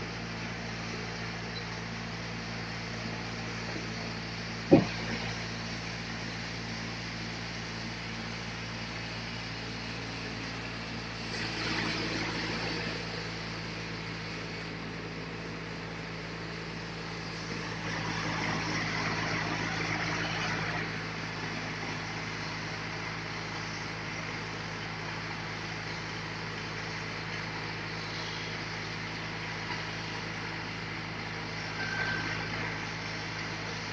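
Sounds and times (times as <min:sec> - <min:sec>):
low engine hum: 0:00.0 - 0:33.9.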